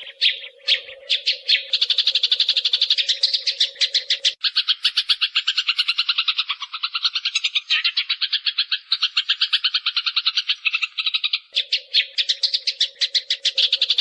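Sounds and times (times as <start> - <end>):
sparrow chirping and trilling: 0.0 - 14.0.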